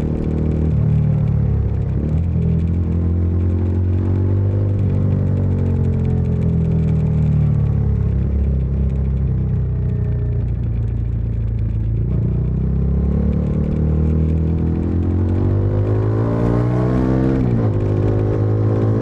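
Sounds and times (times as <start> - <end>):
motorcycle engine and exhaust: 0.0 - 19.0.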